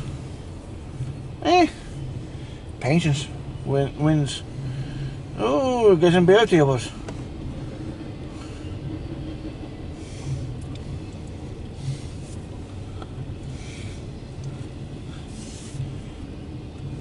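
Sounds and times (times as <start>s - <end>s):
rumble of train wheels on track: 0.0s - 17.0s.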